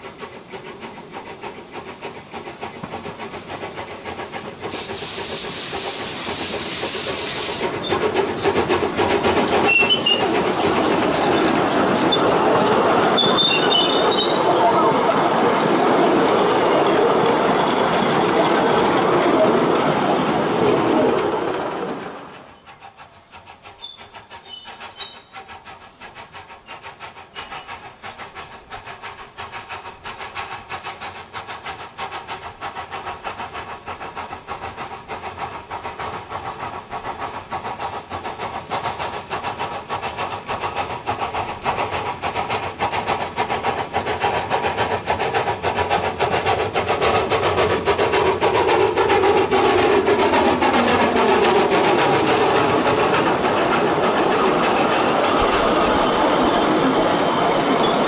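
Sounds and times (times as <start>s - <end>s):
steam locomotive clatter: 0.0s - 58.0s.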